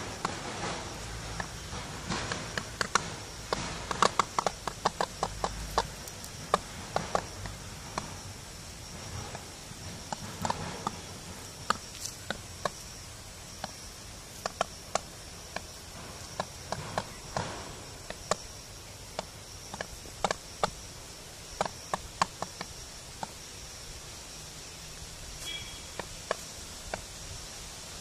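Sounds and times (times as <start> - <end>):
beaks tapping on ground: 0.0 - 28.0.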